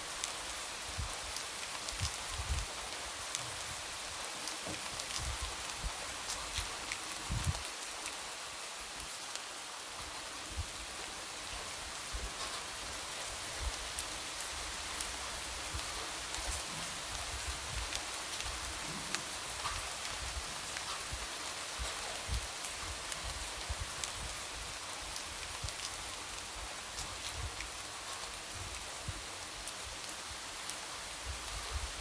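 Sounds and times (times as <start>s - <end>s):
light rain falling: 0.0s - 32.0s.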